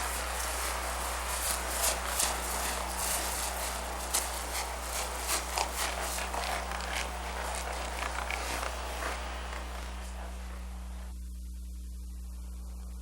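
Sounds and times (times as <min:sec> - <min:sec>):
footsteps: 0:00.0 - 0:11.1
electrical mains hum: 0:00.0 - 0:13.0.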